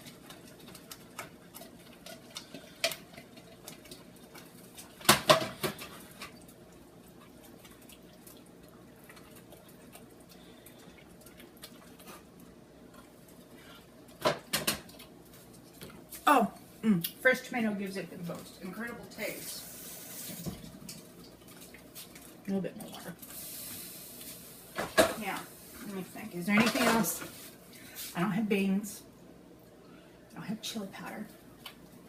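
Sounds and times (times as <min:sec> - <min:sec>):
chili bubbling in a pot: 0:00.0 - 0:32.0.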